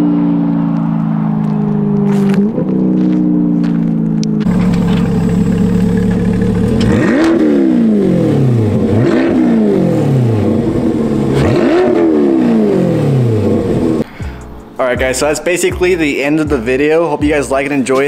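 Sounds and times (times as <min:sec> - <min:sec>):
sports car engine idling and revving: 0:00.0 - 0:14.6.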